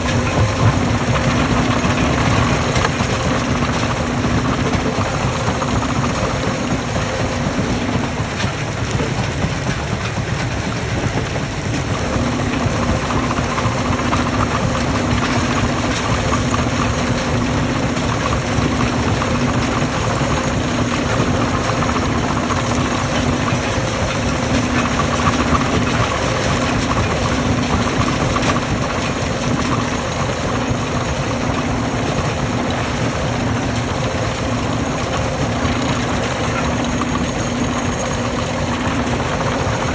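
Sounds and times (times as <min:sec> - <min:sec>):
stone-crushing machinery running: 0:00.0 - 0:39.9.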